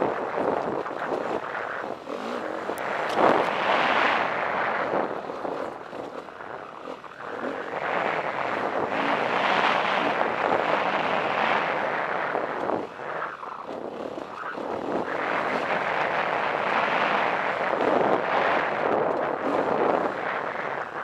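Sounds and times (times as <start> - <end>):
dirt bike engine running: 0.0 - 21.0
wind noise: 0.0 - 21.0.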